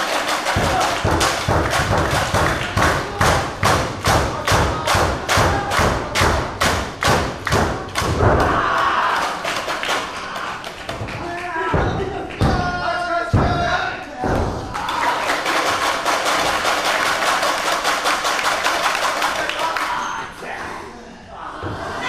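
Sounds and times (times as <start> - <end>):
audience clapping in rhythm: 0.0 - 13.3, 14.3 - 20.0.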